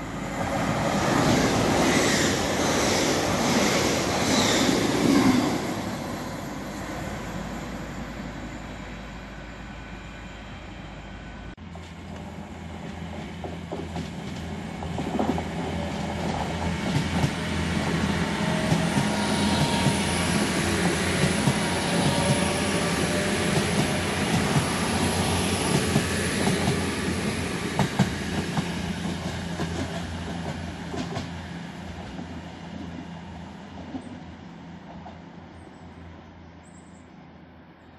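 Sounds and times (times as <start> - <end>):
train wheels on rail: 0.0 - 8.6, 11.6 - 36.1.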